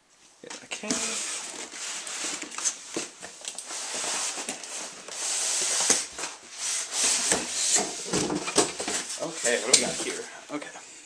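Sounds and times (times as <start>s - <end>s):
cardboard box rustling and scraping: 0.8s - 10.3s.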